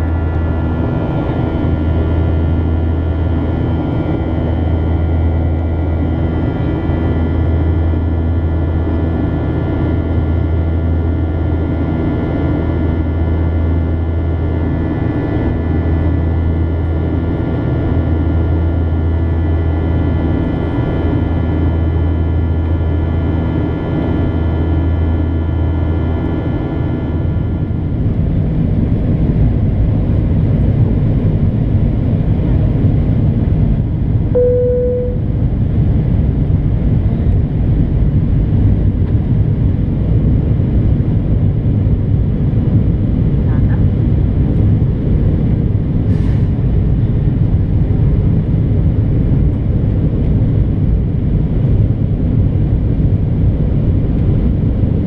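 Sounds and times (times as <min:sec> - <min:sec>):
airplane cabin engine drone: 0:00.0 - 0:55.0
fan tone whine: 0:00.0 - 0:55.0.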